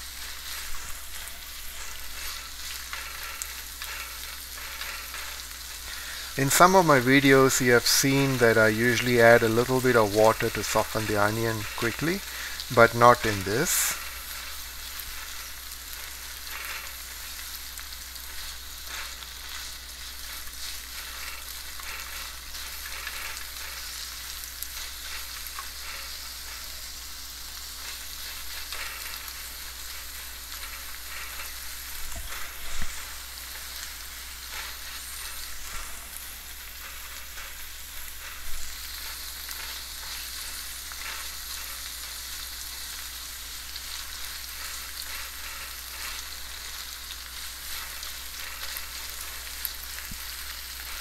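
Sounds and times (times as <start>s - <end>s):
spatula scraping a wok: 0.0s - 7.7s, 13.8s - 51.0s
onions sizzling in hot oil: 0.0s - 51.0s.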